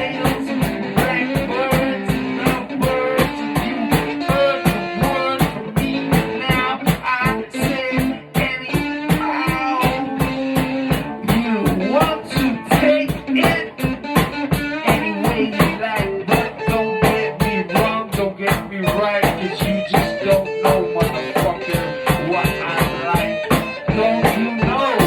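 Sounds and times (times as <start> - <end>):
drum kit beating: 0.0 - 25.0
lead guitar: 0.0 - 25.0.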